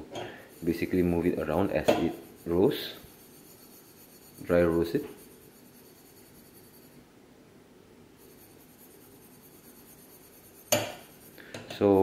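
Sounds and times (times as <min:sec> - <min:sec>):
dry grains sliding in a saucepan: 0:00.3 - 0:07.0, 0:08.2 - 0:11.5.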